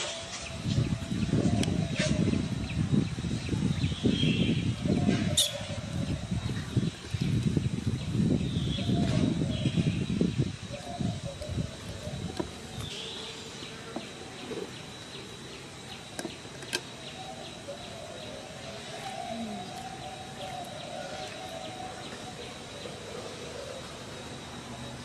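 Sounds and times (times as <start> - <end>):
low drone: 0.0 - 25.0
pulsing insect trill: 0.0 - 25.0.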